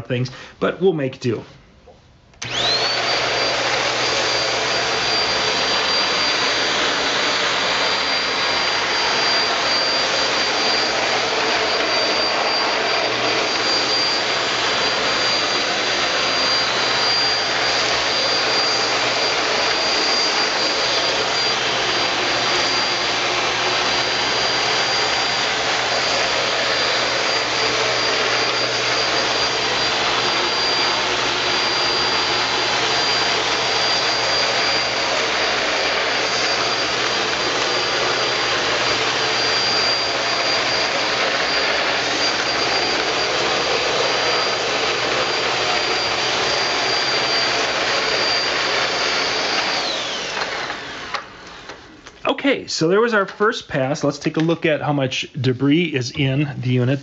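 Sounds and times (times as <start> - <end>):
stick vacuum running: 2.3 - 53.4.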